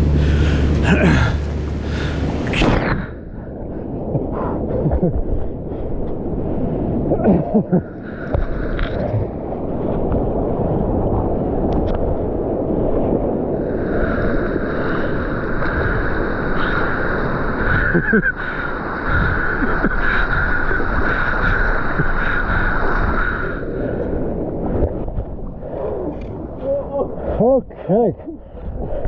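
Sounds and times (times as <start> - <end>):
rushing floodwater: 0.0 - 3.0, 7.0 - 29.0
wind buffeting microphone: 0.0 - 29.0.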